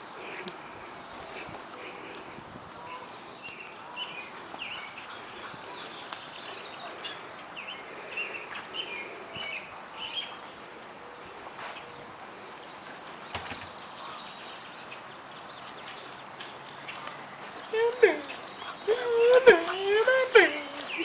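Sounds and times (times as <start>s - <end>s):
birds chirping: 0.0s - 21.0s
outdoor background hiss: 0.0s - 21.0s.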